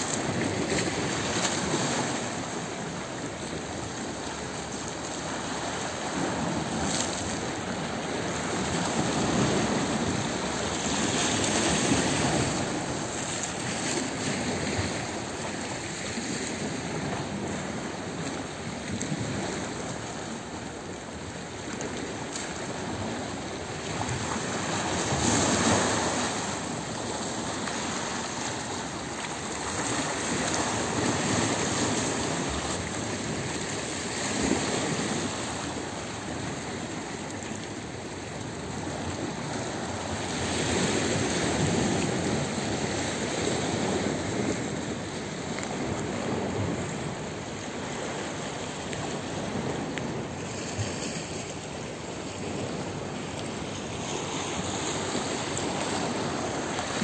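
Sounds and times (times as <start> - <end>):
waves lapping over rocks: 0.0 - 57.0.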